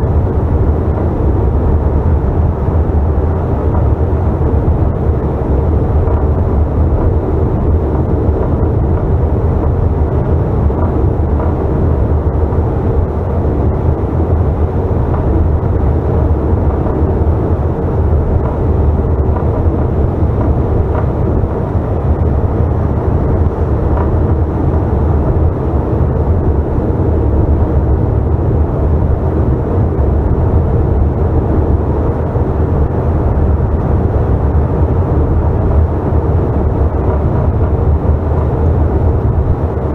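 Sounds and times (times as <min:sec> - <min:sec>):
faint steady hum: 0:00.0 - 0:39.9
jet engine cabin drone: 0:00.0 - 0:39.9.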